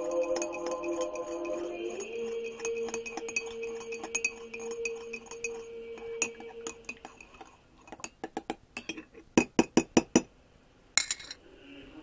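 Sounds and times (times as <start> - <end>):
spoon clinking in a mug: 0.0 - 9.6, 11.0 - 11.4.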